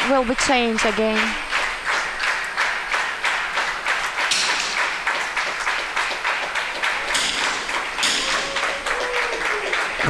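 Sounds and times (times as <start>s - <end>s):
spectators clapping in unison: 0.0s - 10.0s.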